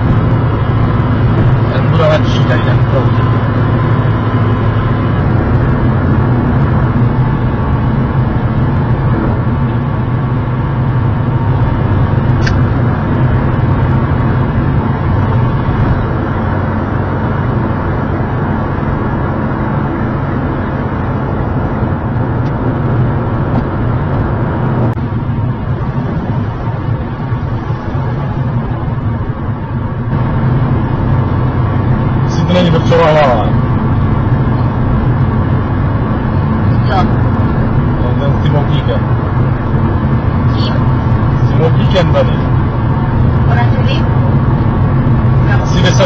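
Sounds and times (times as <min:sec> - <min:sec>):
car road and engine drone: 0:00.0 - 0:46.0.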